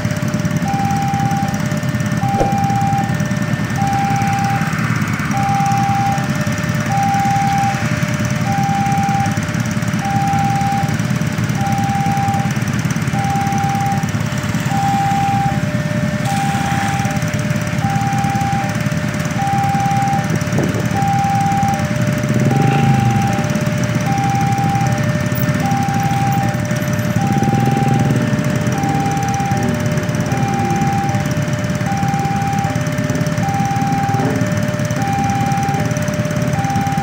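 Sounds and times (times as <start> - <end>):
electronic two-tone chime alarm: 0.0 - 37.0
motorcycles idling: 0.0 - 37.0.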